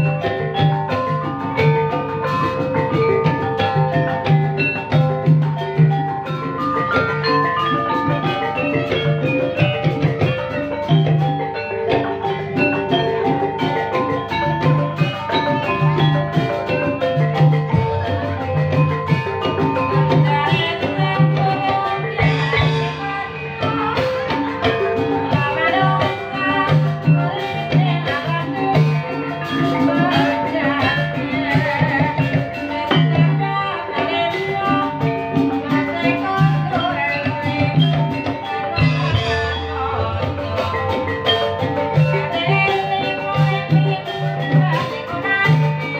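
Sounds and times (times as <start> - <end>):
struck tuned percussion: 0.0 - 45.9.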